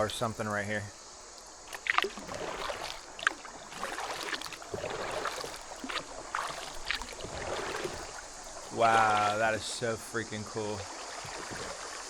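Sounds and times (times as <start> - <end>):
rushing water: 0.0 - 12.0
kayak paddle splashing: 1.0 - 12.0.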